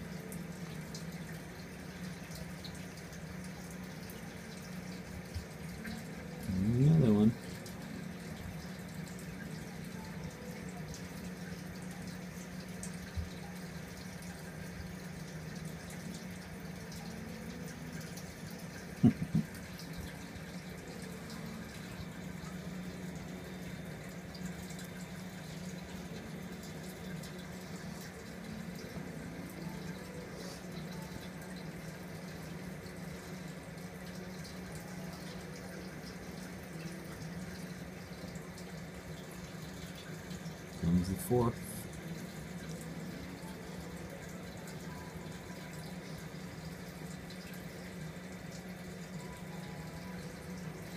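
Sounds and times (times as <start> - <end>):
low pump hum: 0.0 - 50.9
water running and dripping: 0.0 - 50.9.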